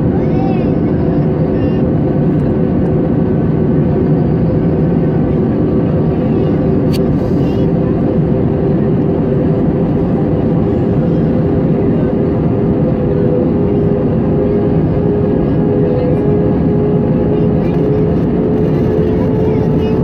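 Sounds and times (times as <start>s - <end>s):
airliner cabin engine roar: 0.0s - 20.0s.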